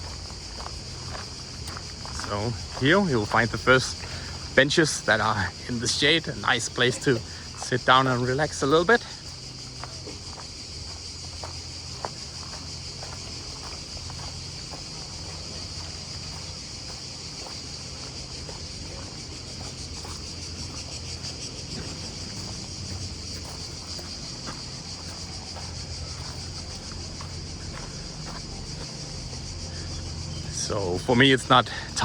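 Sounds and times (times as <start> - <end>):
cicadas droning: 0.0 - 32.0
faint footsteps: 0.0 - 32.0.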